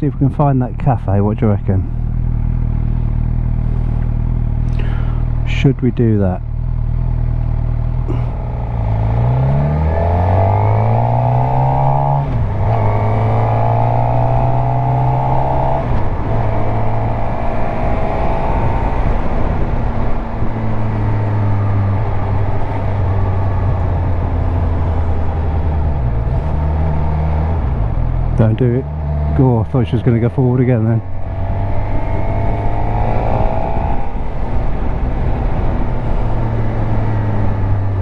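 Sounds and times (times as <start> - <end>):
motorcycle engine revving: 1.6 - 5.7, 6.4 - 38.0.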